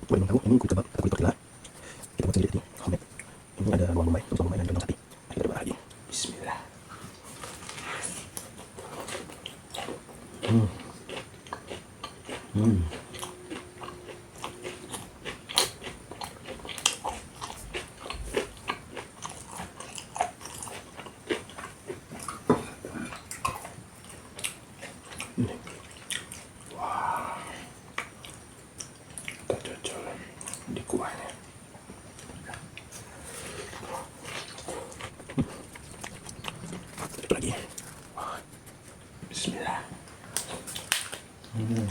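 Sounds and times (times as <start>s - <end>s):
biting and chewing: 6.9s - 26.8s, 27.8s - 41.9s.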